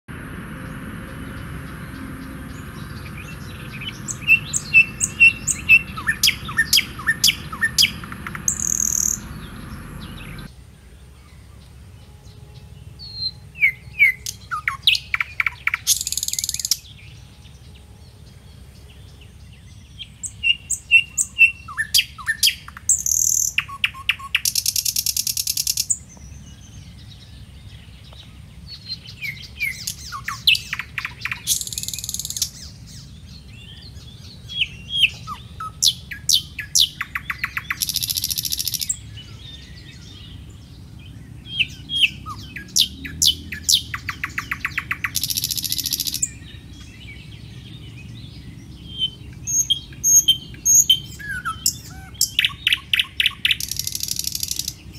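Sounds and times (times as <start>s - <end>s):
low steady background noise: 0.1s - 54.9s
bird chirps with buzzy trill: 1.2s - 10.5s, 12.0s - 54.9s.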